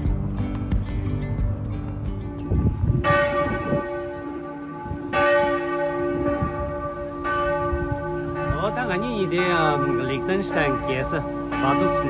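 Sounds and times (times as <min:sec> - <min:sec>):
church bell tolling: 0:02.2 - 0:12.0.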